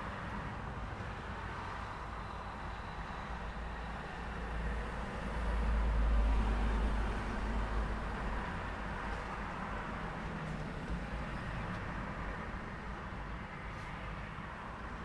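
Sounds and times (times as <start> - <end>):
traffic rumble and tyre noise: 0.0 - 15.0.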